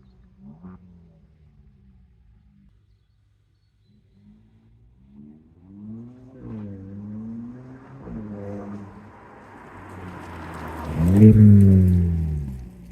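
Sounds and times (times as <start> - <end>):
car engine accelerating and passing: 0.0 - 3.0, 3.8 - 12.9.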